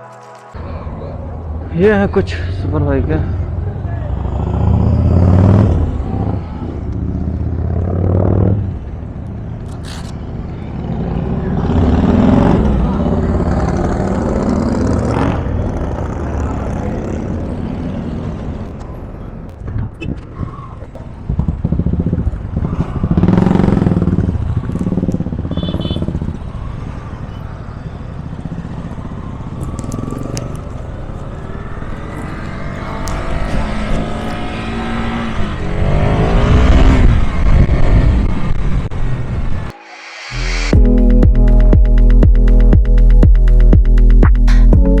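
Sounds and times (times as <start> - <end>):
motorcycle engine accelerating: 2.6 - 18.6, 21.2 - 27.0, 28.2 - 45.0.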